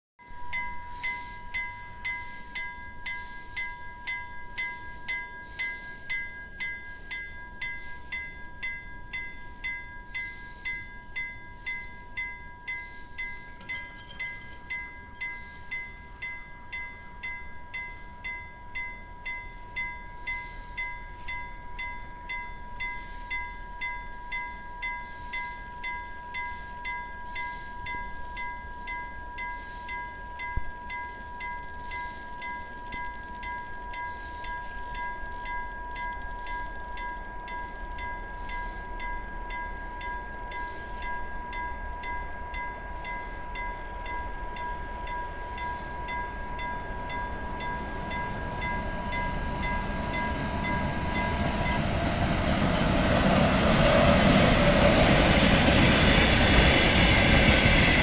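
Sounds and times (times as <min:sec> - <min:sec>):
level crossing bell ringing: 0:00.6 - 0:52.0.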